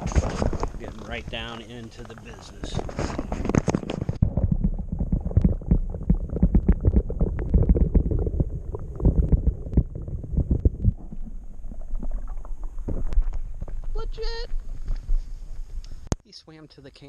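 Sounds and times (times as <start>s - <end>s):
water knocks and sloshes: 0.0s - 15.6s
muffled underwater rumble: 0.0s - 16.1s.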